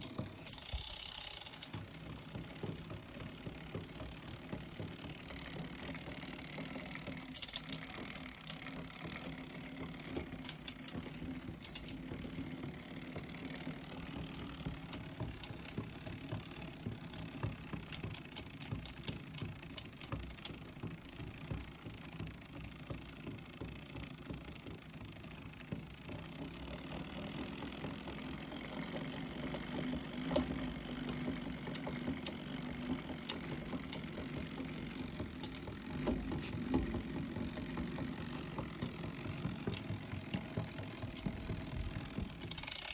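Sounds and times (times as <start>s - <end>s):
bicycle drivetrain knocking and clicking: 0.0s - 42.9s.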